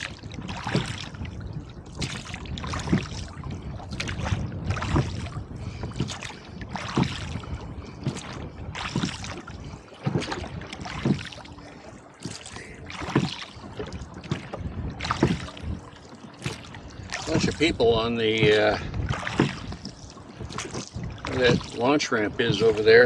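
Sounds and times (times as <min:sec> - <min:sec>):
oars splashing and knocking: 0:00.0 - 0:23.0
wind rumbling on microphone: 0:00.0 - 0:23.0.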